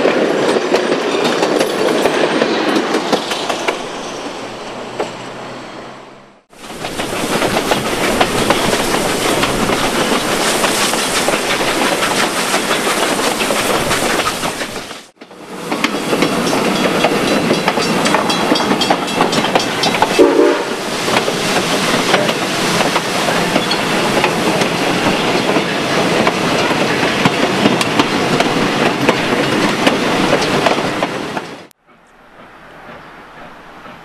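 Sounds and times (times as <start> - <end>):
train wheels clattering on rails: 0.0 - 5.3, 6.5 - 34.0.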